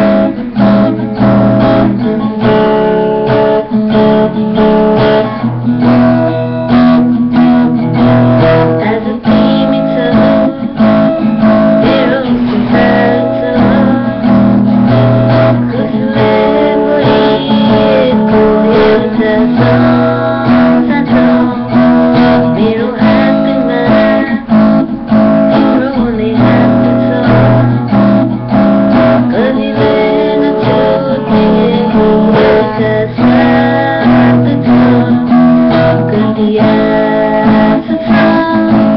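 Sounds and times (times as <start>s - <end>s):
acoustic guitar strumming chords: 0.0s - 38.9s.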